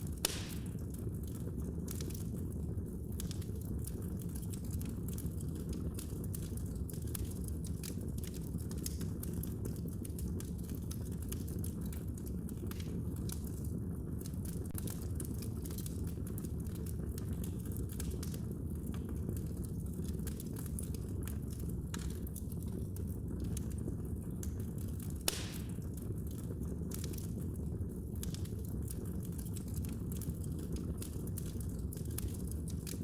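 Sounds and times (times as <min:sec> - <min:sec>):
fire crackling in fireplace: 0:00.0 - 0:33.0.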